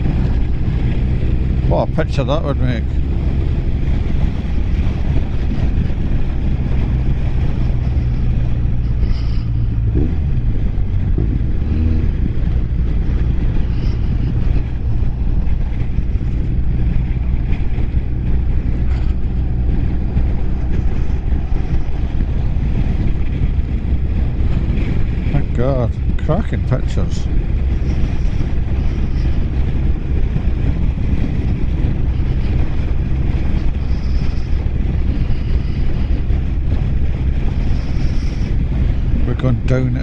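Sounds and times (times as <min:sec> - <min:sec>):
motorcycle engine cruising: 0:00.0 - 0:40.0
wind rush on microphone: 0:00.0 - 0:40.0.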